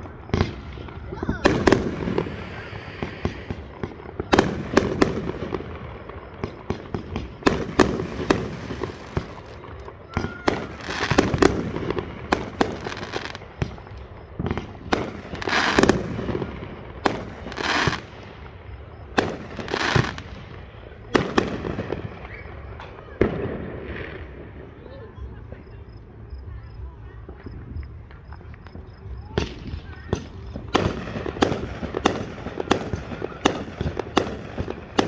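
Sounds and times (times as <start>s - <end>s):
fireworks bangs: 0.0s - 35.0s
fireworks rushing and crackling: 0.0s - 35.0s.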